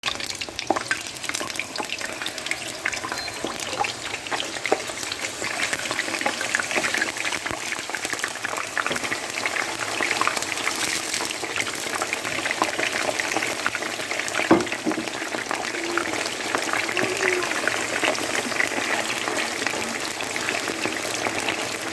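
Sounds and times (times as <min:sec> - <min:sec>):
food frying with crackles: 0:00.0 - 0:21.9.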